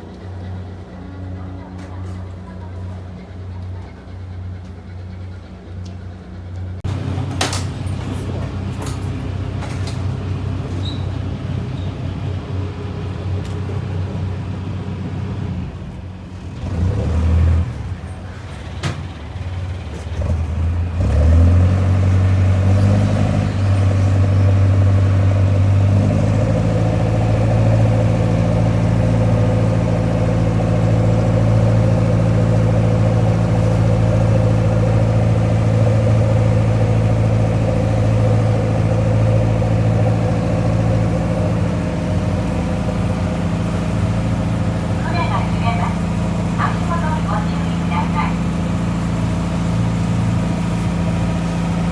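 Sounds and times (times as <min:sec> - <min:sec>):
ferry engine humming: 0:00.0 - 0:51.9.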